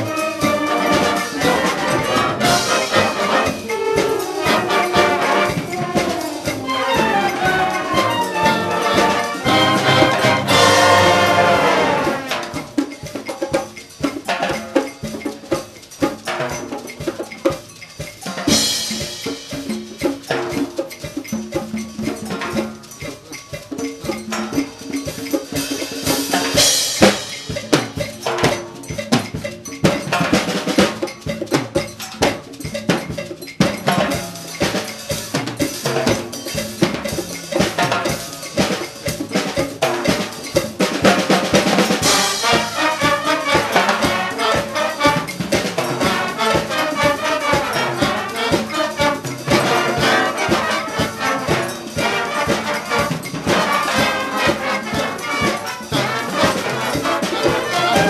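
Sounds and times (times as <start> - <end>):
concert band playing: 0.0 - 58.0
cowbell and drums: 0.0 - 58.0.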